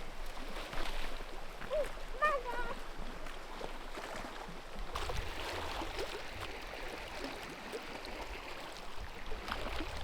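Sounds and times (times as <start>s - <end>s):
rush of lake water: 0.0s - 10.0s.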